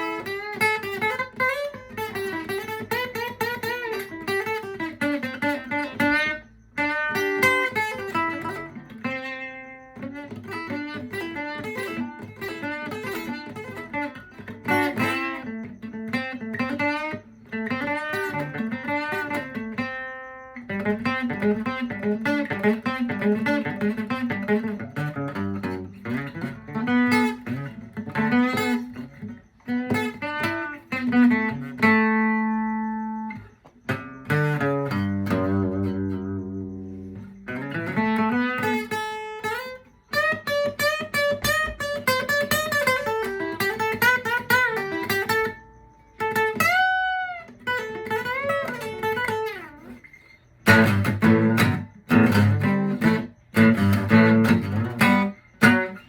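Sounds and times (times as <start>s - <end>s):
solo guitar playing: 0.0s - 56.0s.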